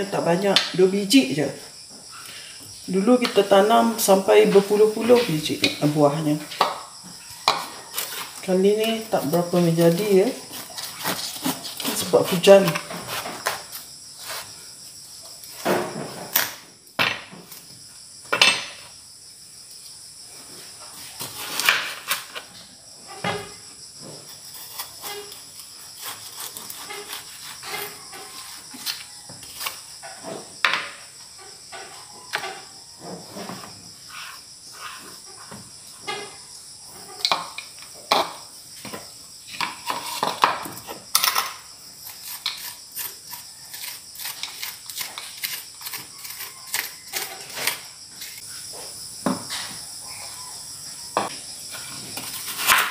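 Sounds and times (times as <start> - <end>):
crickets chirring: 0.0 - 52.9.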